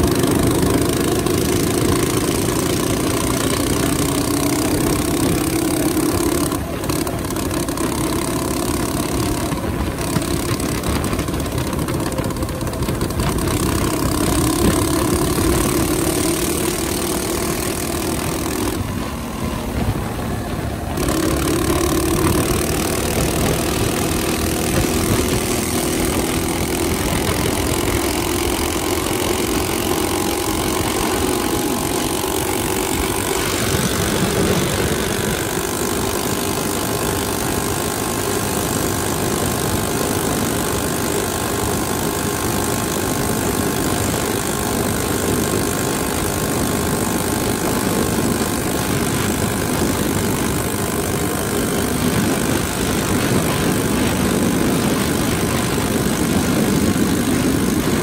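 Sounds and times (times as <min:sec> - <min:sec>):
minibike engine running: 0:00.0 - 0:58.0
road noise: 0:00.0 - 0:58.0
wind noise: 0:09.2 - 0:38.2, 0:38.8 - 0:58.0.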